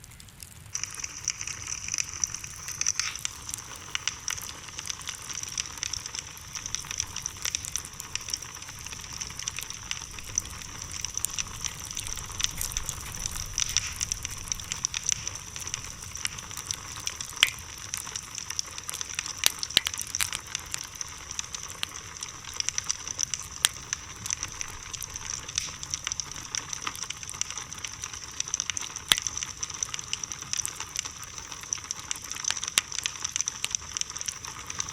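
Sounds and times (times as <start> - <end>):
bonfire crackling and popping: 0.0 - 34.9
fire hissing: 0.0 - 34.9.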